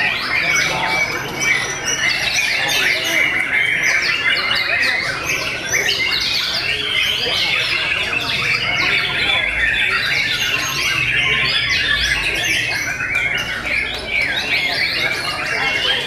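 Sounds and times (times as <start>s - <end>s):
birds whistling and chirping: 0.0s - 16.0s.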